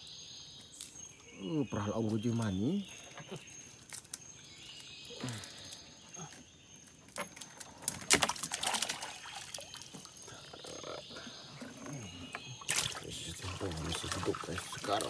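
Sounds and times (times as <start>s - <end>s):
insects droning: 0.0s - 15.0s
water splashing and trickling: 0.8s - 6.4s, 7.0s - 15.0s.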